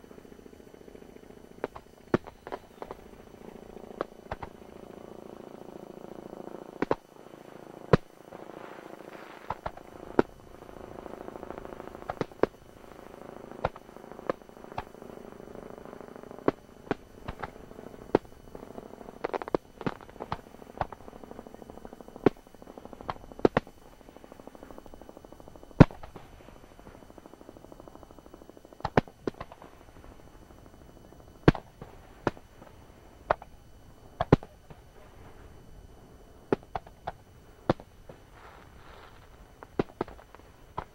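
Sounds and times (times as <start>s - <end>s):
fireworks bursting with sharp bangs: 0.1s - 40.9s.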